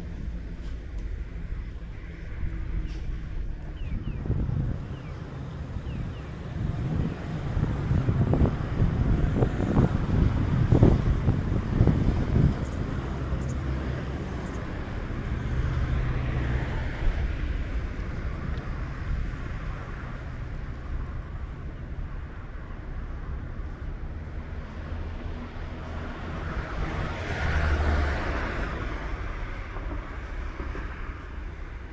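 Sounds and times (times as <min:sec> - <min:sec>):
cars passing: 0:00.0 - 0:31.9
steady low traffic rumble: 0:00.0 - 0:31.9.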